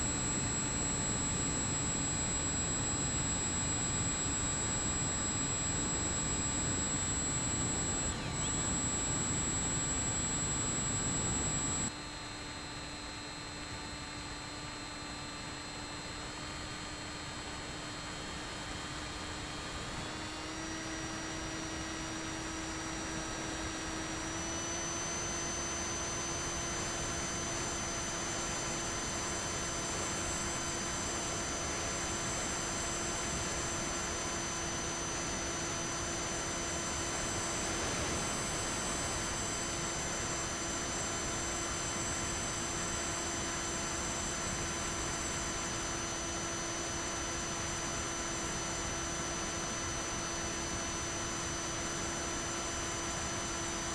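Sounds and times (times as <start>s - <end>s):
electric motor propeller whine: 0.0s - 53.9s.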